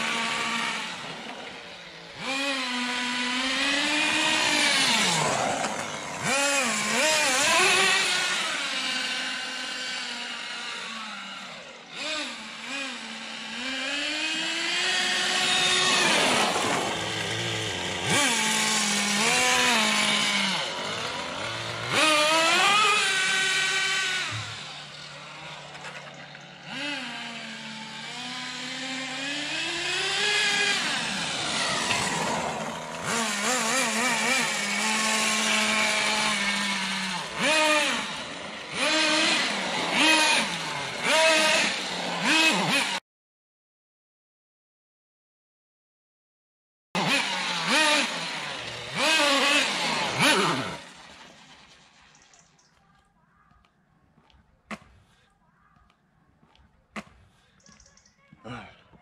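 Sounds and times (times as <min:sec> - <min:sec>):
small nitro engine buzzing: 0:00.0 - 0:43.0, 0:47.0 - 0:52.7.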